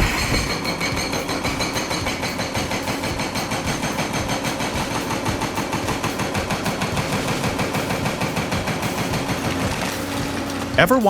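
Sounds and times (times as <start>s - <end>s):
heavy machinery hammering: 0.0s - 11.0s.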